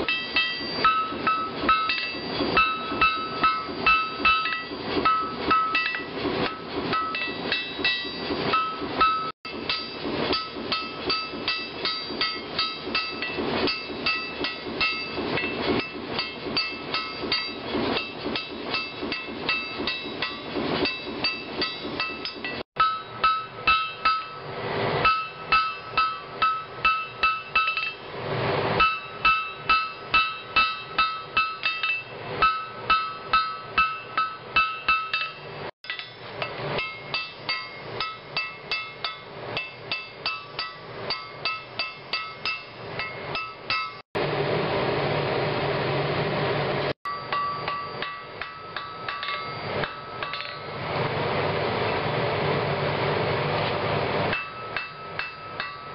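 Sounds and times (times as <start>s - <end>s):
hammer striking steel on anvil: 0.0s - 28.1s, 28.8s - 44.0s, 47.0s - 50.8s, 54.3s - 55.9s.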